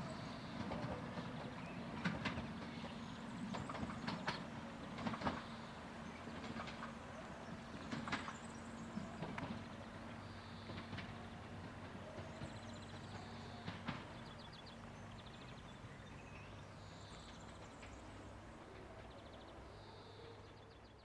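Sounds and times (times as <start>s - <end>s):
birds chirping: 0.0s - 21.0s
faint diesel engine drone: 0.0s - 21.0s
wheels clicking on track: 0.0s - 21.0s.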